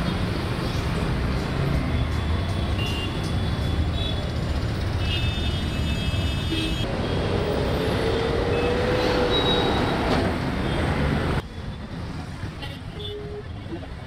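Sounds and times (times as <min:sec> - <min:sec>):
heavy road traffic rumble: 0:00.0 - 0:14.0.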